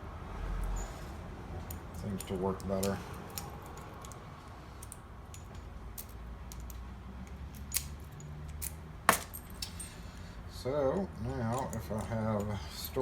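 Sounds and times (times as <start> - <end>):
metallic clicks of lock parts: 1.6 - 10.3, 10.9 - 13.0.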